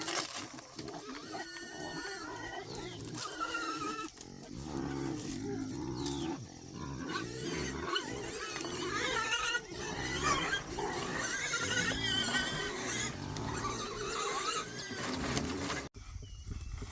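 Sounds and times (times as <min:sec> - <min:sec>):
pigs grunting: 0:00.0 - 0:15.9
pigs squealing: 0:00.8 - 0:15.9.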